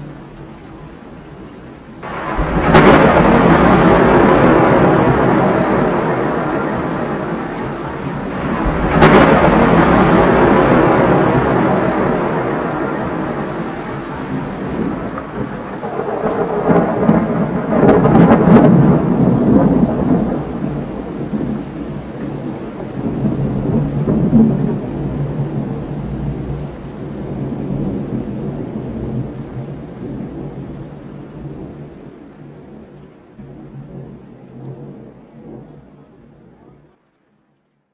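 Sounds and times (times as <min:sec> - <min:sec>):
rolling thunder: 0:02.0 - 0:36.8.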